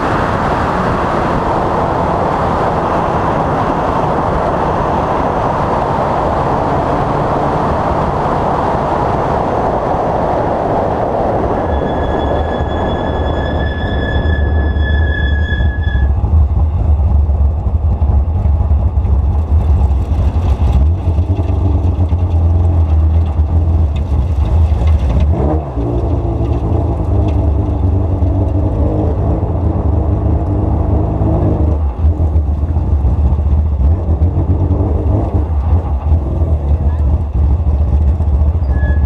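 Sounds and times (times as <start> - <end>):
race car engine low rumble: 0.0 - 39.0.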